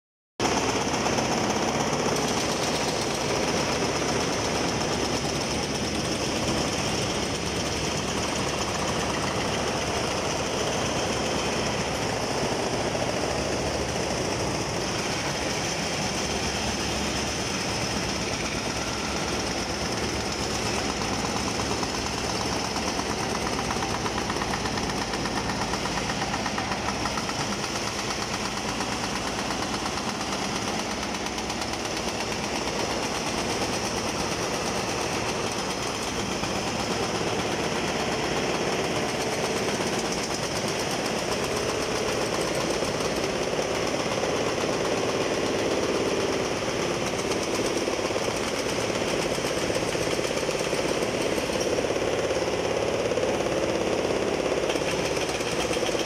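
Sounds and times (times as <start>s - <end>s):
diesel engine running: 0.4s - 56.0s
rapid hammering on concrete: 0.4s - 56.0s.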